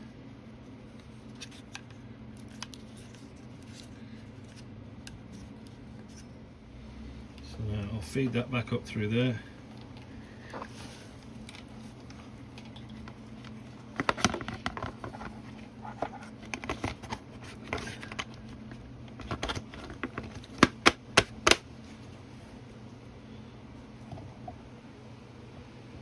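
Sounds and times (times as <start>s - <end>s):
hands handling wiring and plastic: 0.7s - 6.3s, 7.3s - 22.8s.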